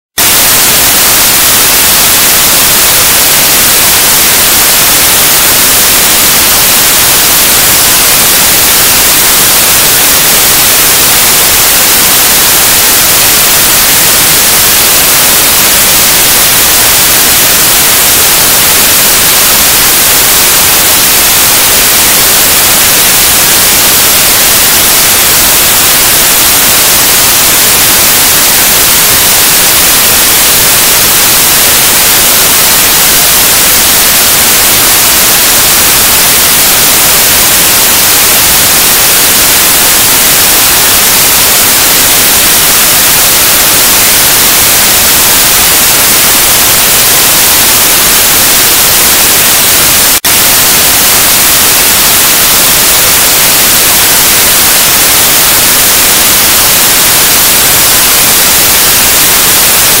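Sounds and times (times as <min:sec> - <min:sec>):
loud white noise hiss: 0:00.0 - 1:00.0.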